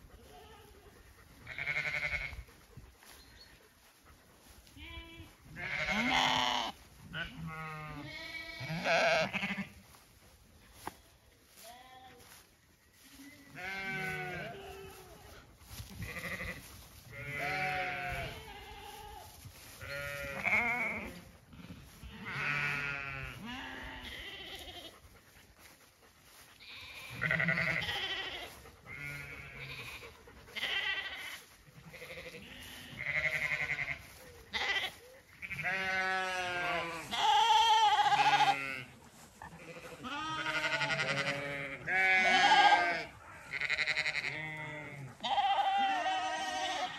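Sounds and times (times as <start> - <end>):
sheep and lambs bleating: 0.0 - 3.2, 4.6 - 10.0, 10.7 - 25.1, 26.3 - 46.9.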